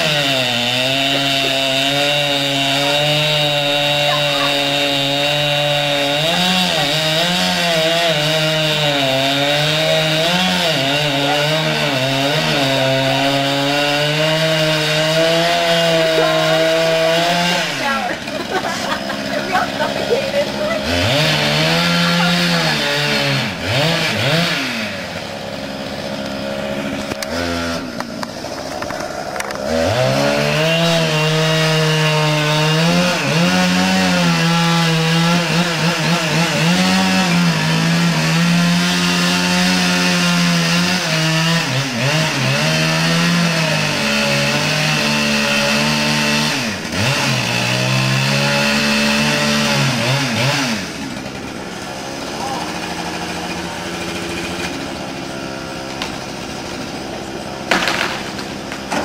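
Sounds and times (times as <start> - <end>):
chainsaw cutting a tree: 0.0 - 59.0.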